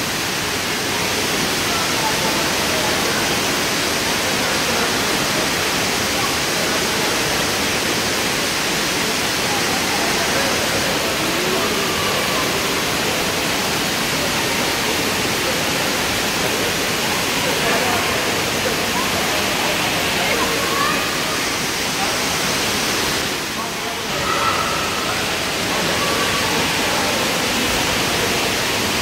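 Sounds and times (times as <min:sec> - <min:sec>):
faint voices: 0:00.0 - 0:29.0
rushing water echoing: 0:00.0 - 0:29.0.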